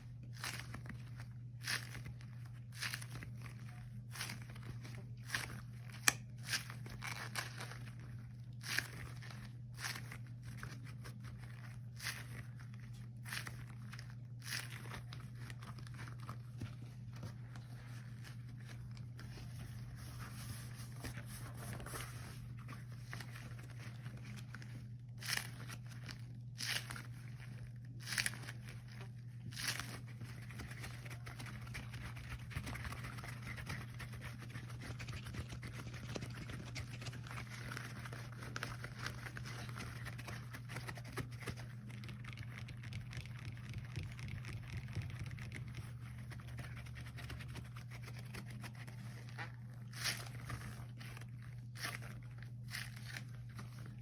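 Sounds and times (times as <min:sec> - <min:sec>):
rubber gloves crackling: 0:00.0 - 0:54.0
steady low hum: 0:00.0 - 0:54.0.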